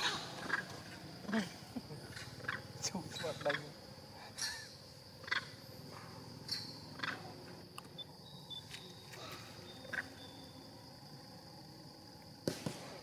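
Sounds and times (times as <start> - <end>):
high insect buzz: 0.0 - 13.0.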